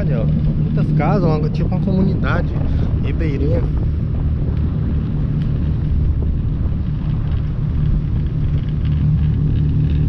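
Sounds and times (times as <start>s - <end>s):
boat engine drone: 0.0s - 10.0s
wind across microphone: 0.0s - 10.0s.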